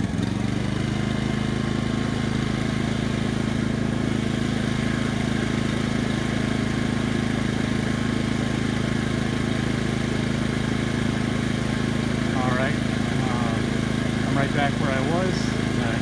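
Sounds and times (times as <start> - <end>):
generator engine hum: 0.0 - 16.0.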